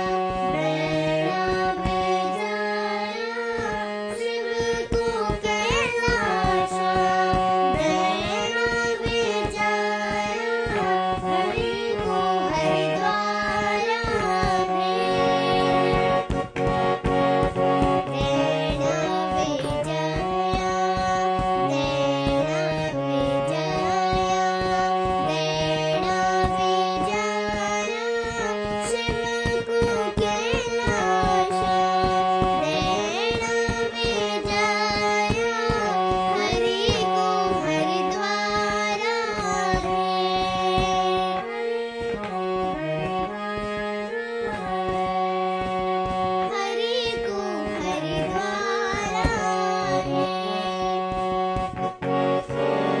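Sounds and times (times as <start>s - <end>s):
girl singing: 0.0s - 51.9s
reed instrument chords: 0.0s - 53.0s
hand drum beating: 4.4s - 22.7s, 23.8s - 41.4s, 44.5s - 52.1s.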